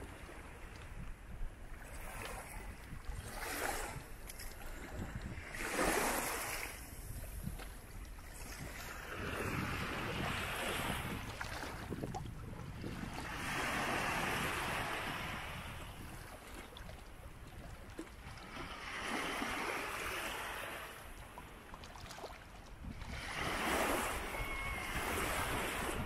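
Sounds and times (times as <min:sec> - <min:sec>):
sea waves breaking: 0:00.0 - 0:26.0.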